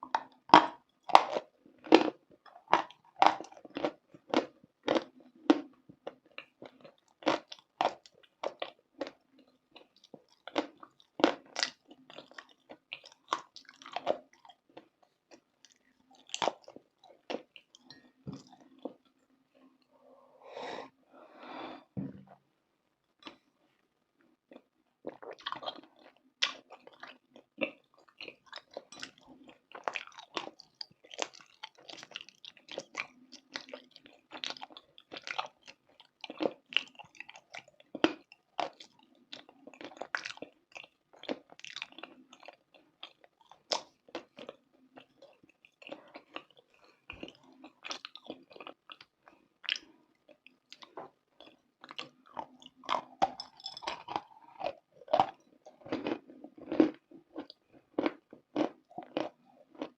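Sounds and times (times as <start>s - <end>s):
chewing crunchy food: 0.0s - 20.0s, 23.2s - 59.9s.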